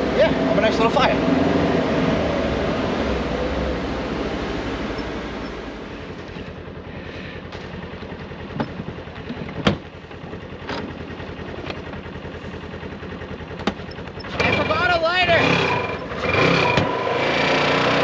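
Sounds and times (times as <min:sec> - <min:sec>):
vehicle engine idling: 0:00.0 - 0:17.2.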